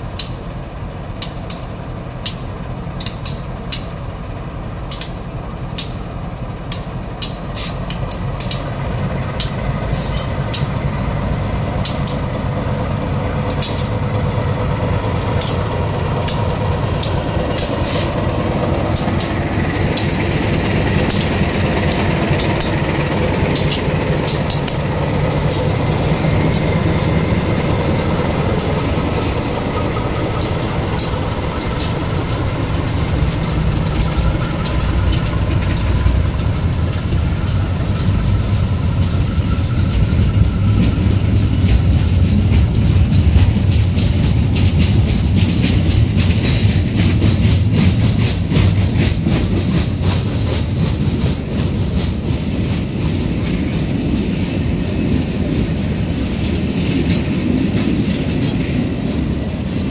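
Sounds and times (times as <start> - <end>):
train rumbling past: 0.0 - 59.9
wheels clicking over rail joints: 0.1 - 59.9.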